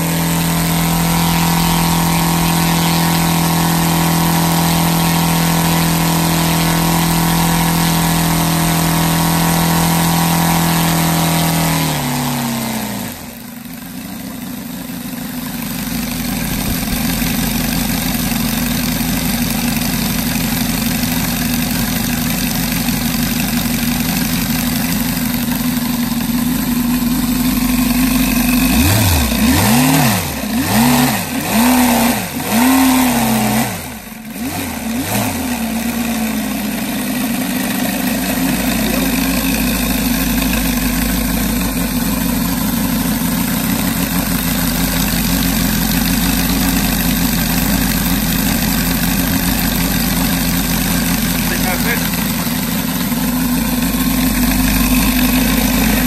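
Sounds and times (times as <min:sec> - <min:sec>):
model radial engine running: 0:00.0 - 0:56.0.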